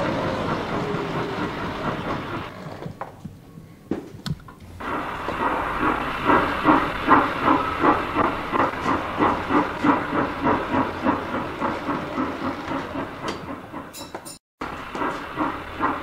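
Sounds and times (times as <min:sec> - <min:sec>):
steam locomotive chuffing: 0:00.0 - 0:02.8, 0:04.8 - 0:16.0.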